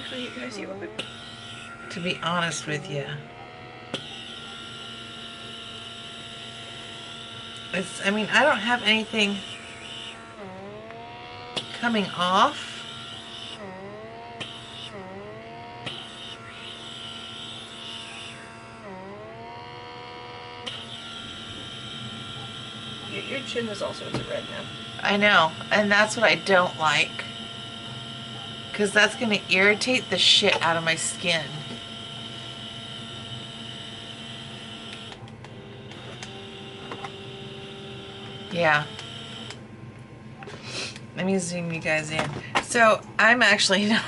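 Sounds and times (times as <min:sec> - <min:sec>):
small suction motor whining: 0:00.0 - 0:39.6, 0:40.3 - 0:44.0.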